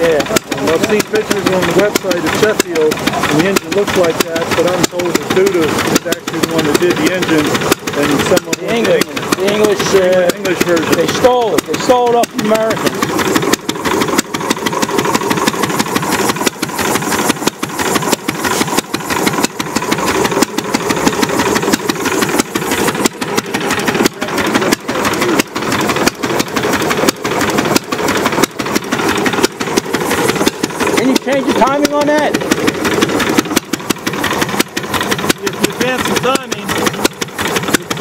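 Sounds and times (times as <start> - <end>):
engine exhaust pops: 0.0 - 38.0.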